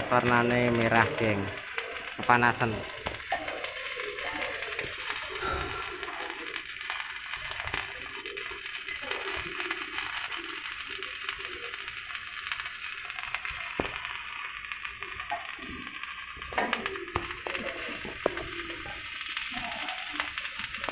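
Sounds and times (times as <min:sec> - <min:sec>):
welding arc crackling and sizzling: 0:00.0 - 0:20.9.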